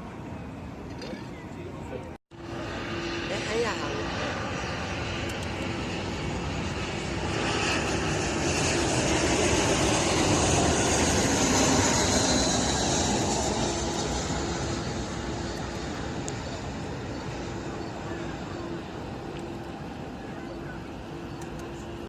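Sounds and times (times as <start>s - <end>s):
jet airliner engine roar: 0.0s - 22.0s.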